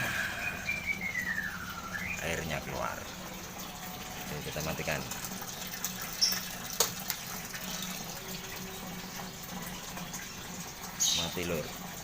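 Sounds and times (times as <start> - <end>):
water running from drain: 0.0 - 12.0.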